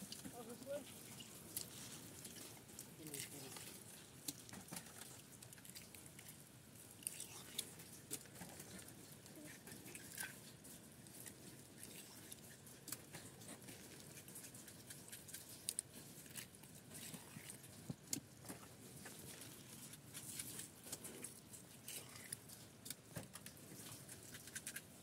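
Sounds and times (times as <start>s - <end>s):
wet clicks and squelches of gutting fish: 0.0s - 25.0s.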